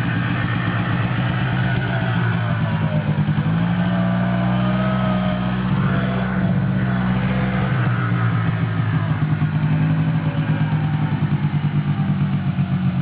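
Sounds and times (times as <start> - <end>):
quad bike engine idling: 0.0 - 13.0.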